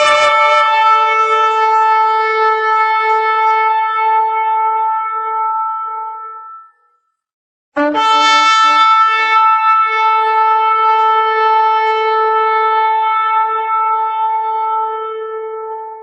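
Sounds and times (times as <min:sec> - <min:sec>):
shofar blast: 0:00.0 - 0:06.7, 0:07.8 - 0:16.0.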